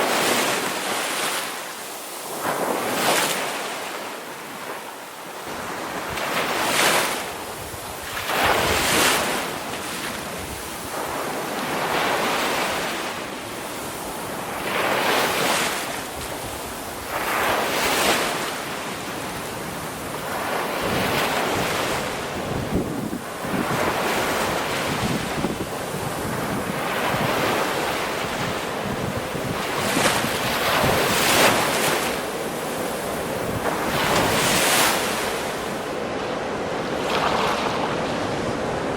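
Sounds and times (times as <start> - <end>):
ocean waves breaking: 0.0 - 38.9
wind: 0.0 - 38.9.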